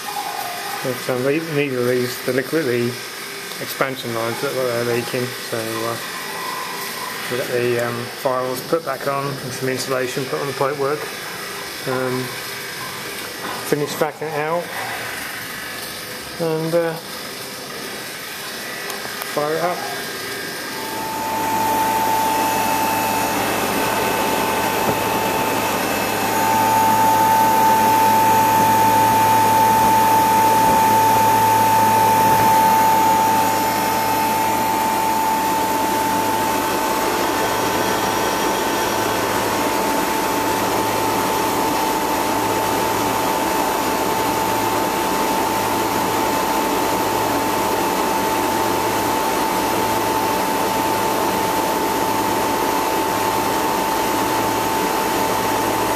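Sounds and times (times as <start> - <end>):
compressor hum with high whine: 0.0 - 55.9.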